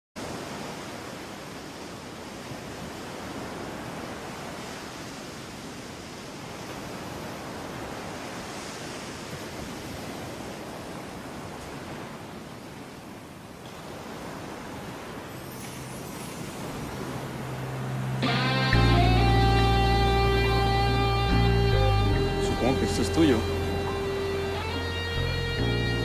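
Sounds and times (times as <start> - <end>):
ocean surf rushing: 0.2 - 26.0.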